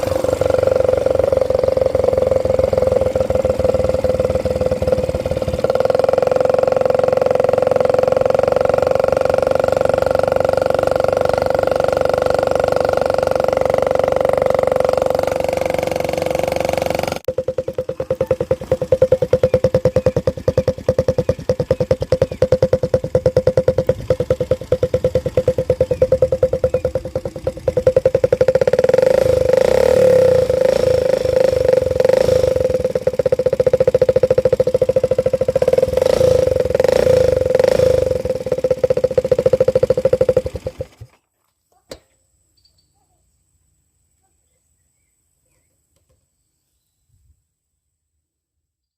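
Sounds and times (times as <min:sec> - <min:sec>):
engine exhaust running: 0:00.0 - 0:41.2.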